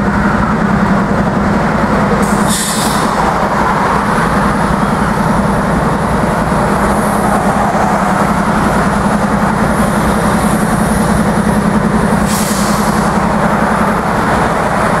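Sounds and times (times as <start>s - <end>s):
cars passing on highway: 0.0s - 15.0s
locomotives idling: 0.0s - 15.0s.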